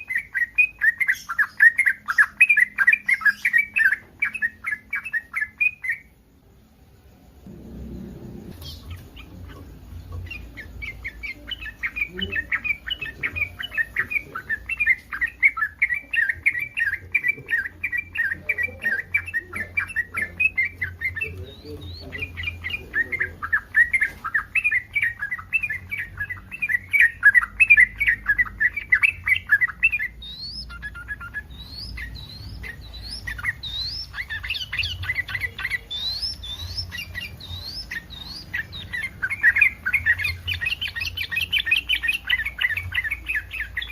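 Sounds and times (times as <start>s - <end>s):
bird bubbling chattering song: 0.0s - 6.2s, 7.4s - 43.9s.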